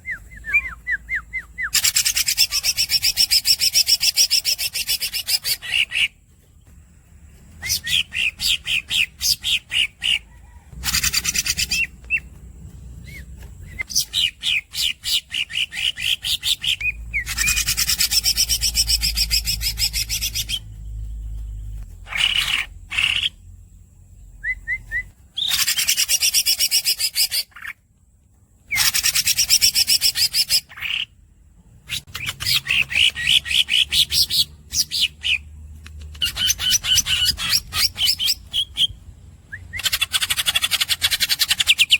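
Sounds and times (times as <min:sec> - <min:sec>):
bird singing chirps and trills: 0:00.0 - 0:27.8, 0:28.6 - 0:41.9.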